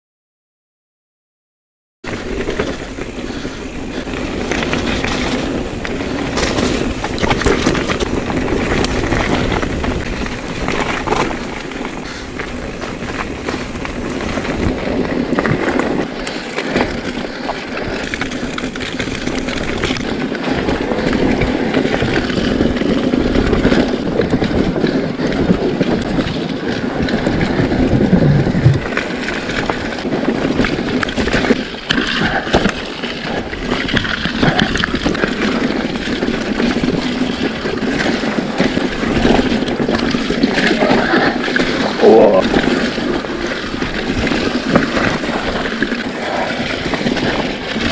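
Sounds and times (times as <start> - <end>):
bike tyres rolling on trail: 2.0 - 47.9
bike clattering: 2.1 - 47.9.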